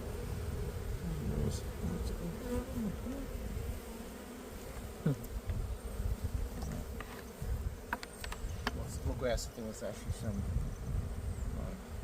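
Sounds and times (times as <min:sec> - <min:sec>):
close bee buzz dropping in pitch: 0:00.0 - 0:12.0
honeybees buzzing: 0:00.0 - 0:12.0.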